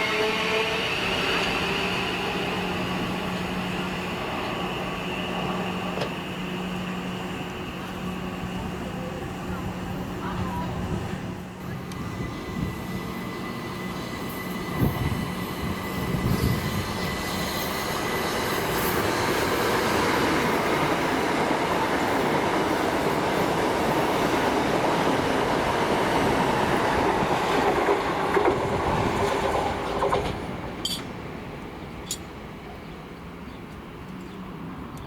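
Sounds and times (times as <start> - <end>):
train wheels on track: 0.0 - 35.0.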